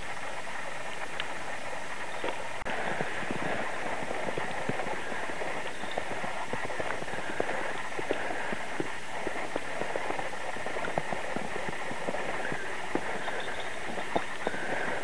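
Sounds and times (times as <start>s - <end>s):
steady hiss: 0.0s - 15.0s
footsteps crunching in snow: 2.1s - 15.0s.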